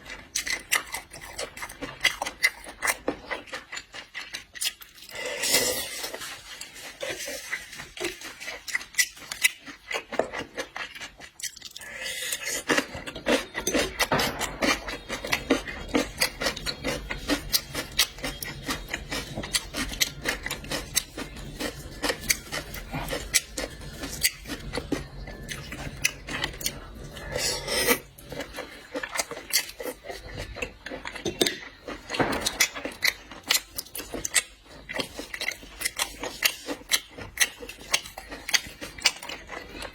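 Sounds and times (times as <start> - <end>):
chewing seafood: 0.0 - 39.9.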